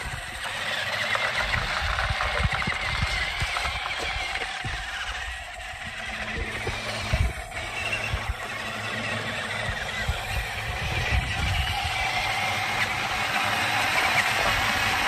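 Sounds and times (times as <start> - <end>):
toy truck electric motors whining: 0.0 - 15.0
tyres scrabbling in loose sand: 0.0 - 15.0.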